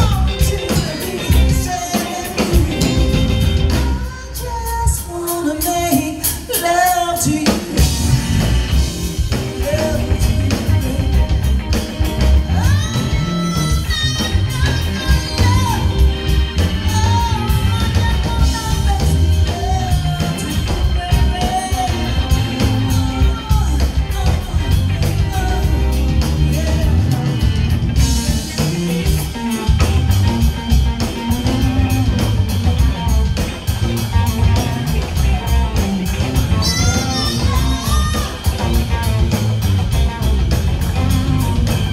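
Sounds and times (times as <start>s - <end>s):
woman singing: 0.0s - 30.4s, 34.2s - 39.2s
bass guitar: 0.0s - 41.9s
drum kit: 0.0s - 41.9s
electric guitar: 0.0s - 41.9s.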